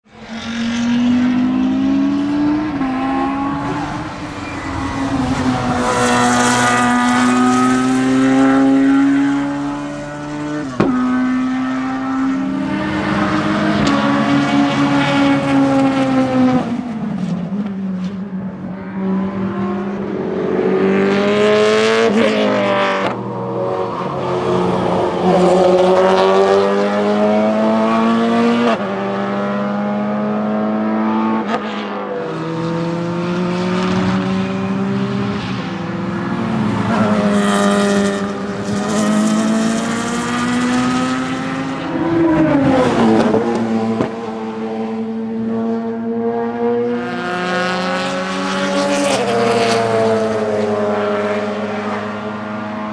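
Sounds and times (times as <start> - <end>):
race cars passing at speed: 0.0 - 52.9.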